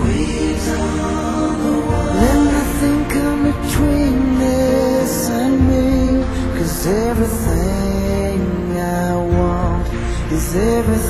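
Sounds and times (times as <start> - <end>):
steady low bass: 0.0 - 11.0
sustained chords: 0.0 - 11.0.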